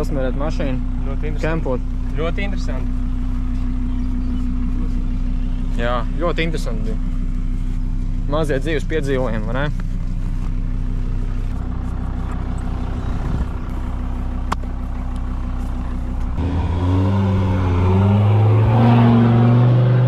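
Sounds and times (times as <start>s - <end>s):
diesel car engine accelerating: 0.0s - 20.0s.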